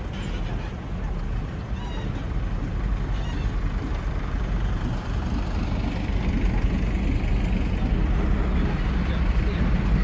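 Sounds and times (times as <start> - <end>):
heavy lorries rumbling past: 0.0 - 10.0.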